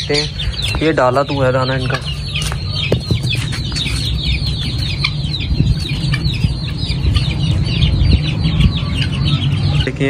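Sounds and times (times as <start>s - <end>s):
chicks peeping: 0.0s - 10.0s
steady low rumble: 0.0s - 10.0s.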